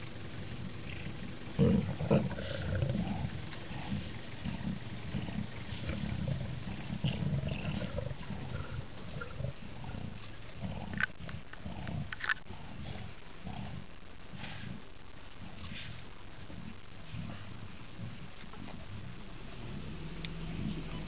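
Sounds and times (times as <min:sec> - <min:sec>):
lions growling: 0:00.2 - 0:21.0.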